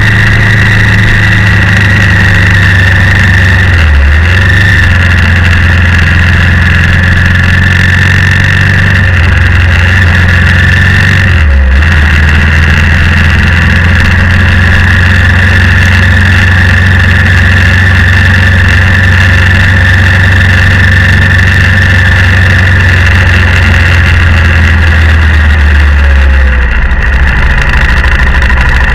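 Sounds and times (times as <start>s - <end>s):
high whine: 0.0s - 28.9s
motorcycle engine droning: 0.0s - 28.9s.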